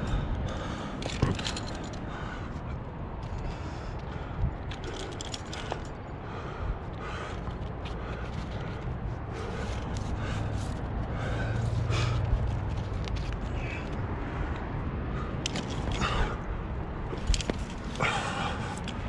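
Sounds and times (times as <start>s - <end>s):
steady rushing background noise: 0.0s - 19.0s.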